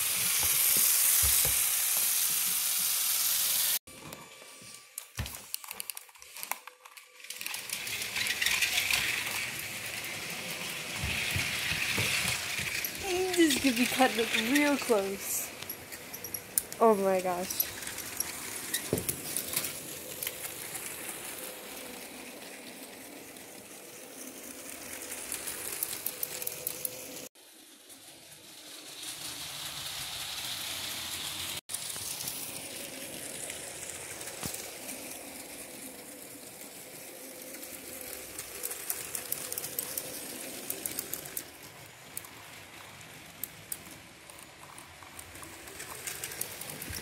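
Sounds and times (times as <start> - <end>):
wheels clicking over track joints: 5.2 - 27.3, 28.2 - 47.0.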